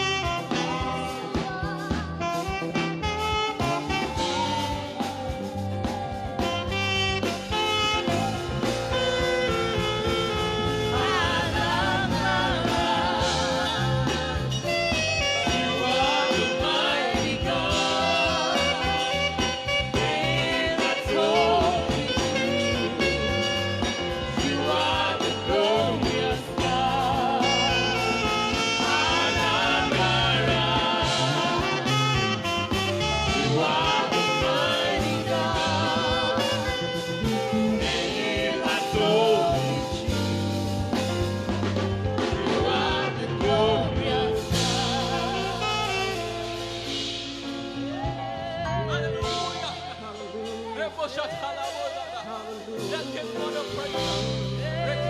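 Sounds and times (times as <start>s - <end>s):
backing track with bass line: 0.0s - 55.0s
saxophone melody with vibrato: 0.0s - 55.0s.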